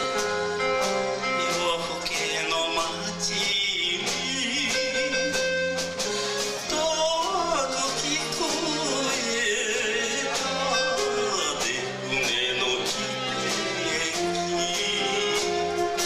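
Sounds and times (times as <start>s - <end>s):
live band playing: 0.0s - 16.0s
man singing into microphone: 1.2s - 5.6s, 6.6s - 16.0s.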